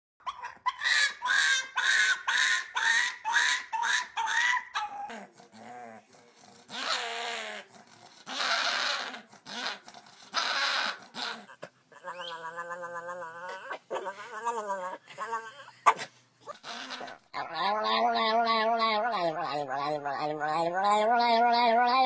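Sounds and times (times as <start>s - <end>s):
dog yelping: 0.2s - 5.1s, 6.7s - 7.7s, 8.3s - 15.0s, 15.9s - 22.0s
dog raspy cries: 0.2s - 22.0s.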